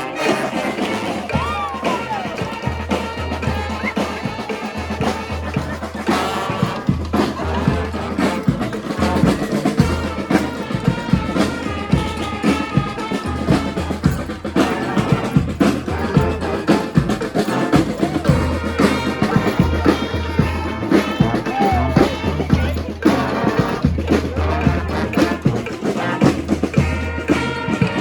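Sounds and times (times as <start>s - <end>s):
brass band playing: 0.0s - 28.0s
steady drum beat: 0.0s - 28.0s.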